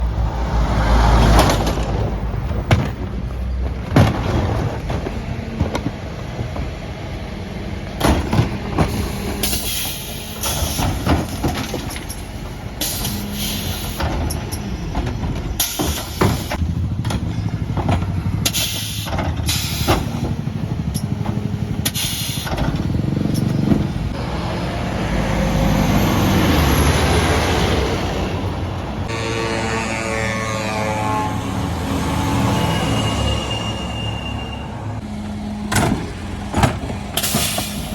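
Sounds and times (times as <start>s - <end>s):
truck diesel engine running: 1.5s - 37.9s.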